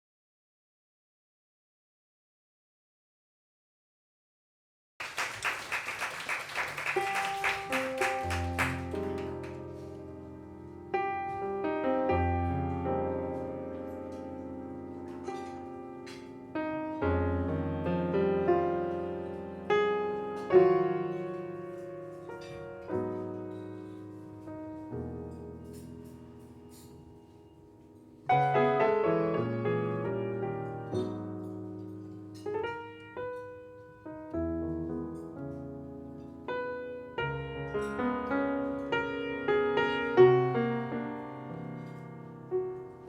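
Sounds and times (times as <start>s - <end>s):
jazz ballad piano: 5.4s - 43.0s.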